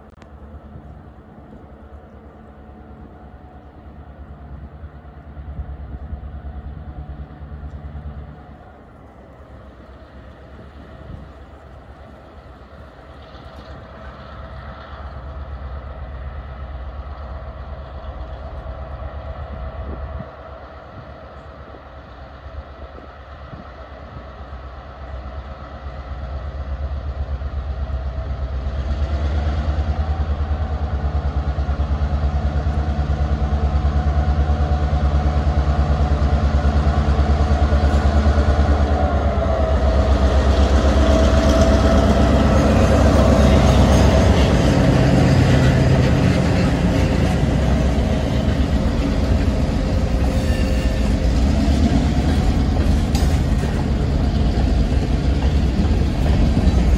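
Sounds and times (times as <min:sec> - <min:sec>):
diesel locomotive engine hum: 0:00.0 - 0:56.9
wheels clicking and grinding on rails: 0:00.0 - 0:56.9.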